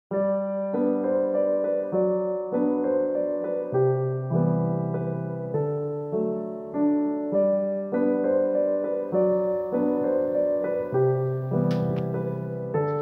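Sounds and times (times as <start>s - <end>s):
gentle piano melody: 0.1s - 13.0s.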